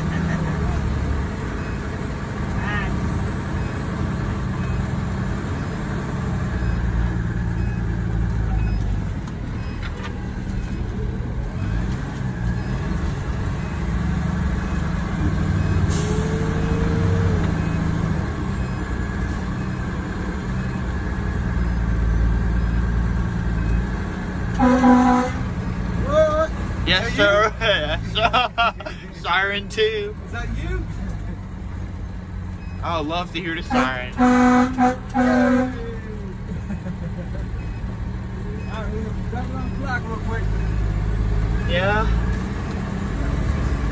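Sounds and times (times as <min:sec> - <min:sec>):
diesel engine rumbling: 0:00.0 - 0:43.9.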